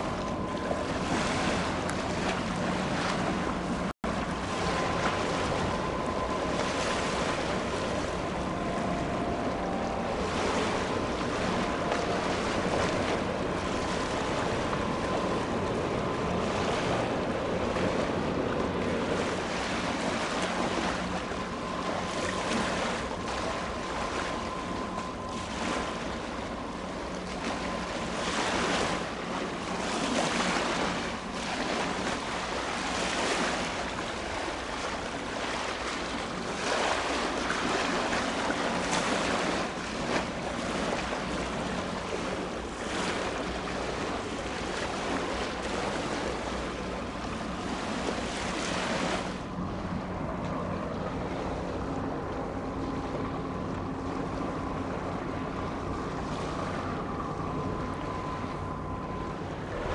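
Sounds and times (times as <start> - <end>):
boat engine hum: 0.0 - 59.9
waterside noise: 0.0 - 59.9.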